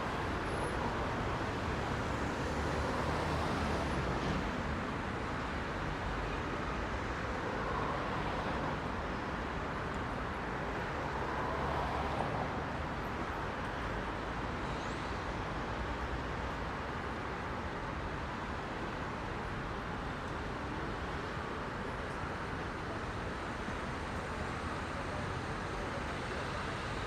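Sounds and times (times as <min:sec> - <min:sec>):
heavy road traffic passing: 0:00.0 - 0:27.0.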